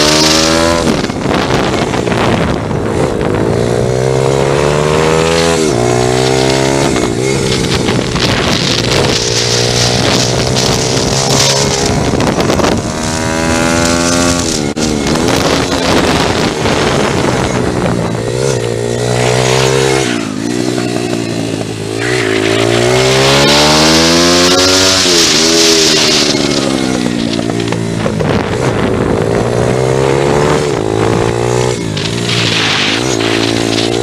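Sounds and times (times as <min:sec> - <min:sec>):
pit bike engine revving: 0:00.0 - 0:34.0
wind noise: 0:00.0 - 0:34.0.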